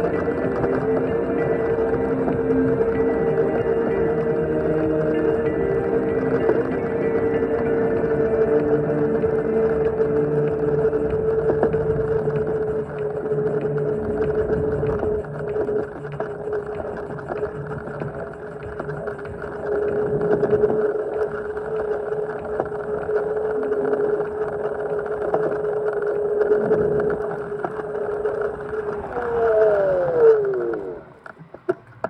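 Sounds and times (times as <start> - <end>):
electric motor whine: 0.0 - 32.0
wind noise: 0.0 - 32.0.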